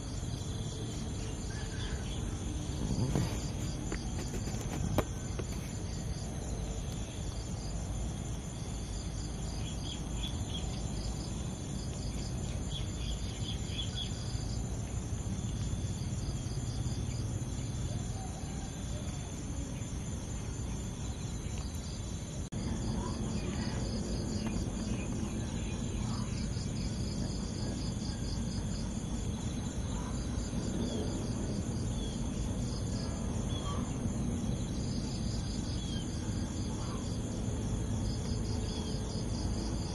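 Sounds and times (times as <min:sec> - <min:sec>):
insects chirring: 0:00.0 - 0:39.9
low background hum: 0:00.0 - 0:39.9.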